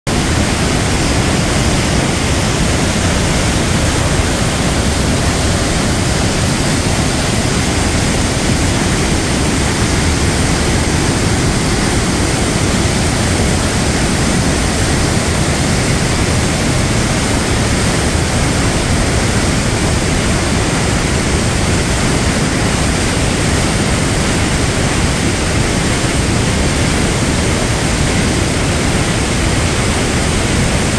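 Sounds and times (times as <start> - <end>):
waterfall rushing over rocks: 0.1 - 30.9.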